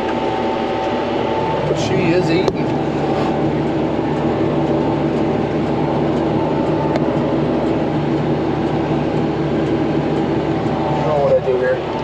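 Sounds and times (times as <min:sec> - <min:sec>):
tractor engine under load: 0:00.0 - 0:12.0.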